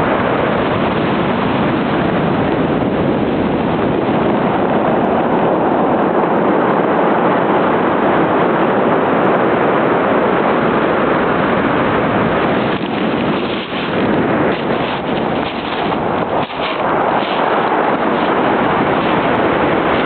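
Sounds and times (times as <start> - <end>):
ocean waves breaking on beach: 0.0 - 20.0.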